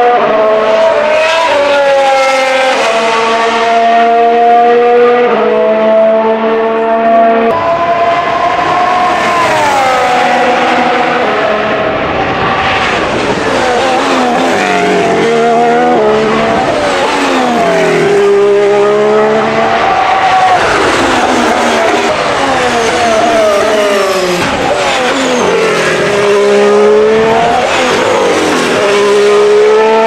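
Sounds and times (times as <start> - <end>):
racing car engine: 0.0 - 30.0.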